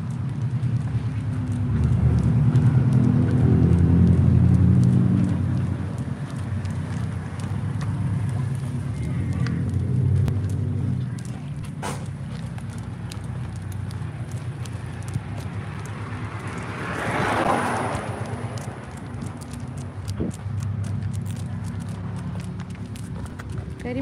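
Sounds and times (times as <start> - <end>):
engine pulsing rumble: 0.0 - 24.0.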